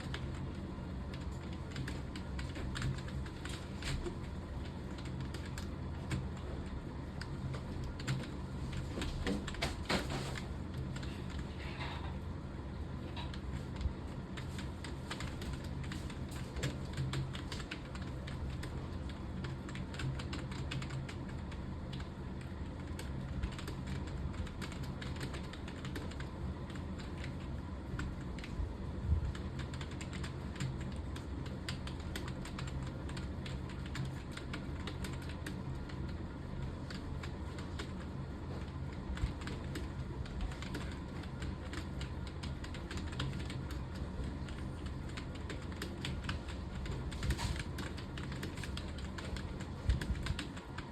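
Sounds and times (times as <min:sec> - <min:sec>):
keyboard typing: 0:00.0 - 0:11.9, 0:13.0 - 0:28.6, 0:29.2 - 0:50.9.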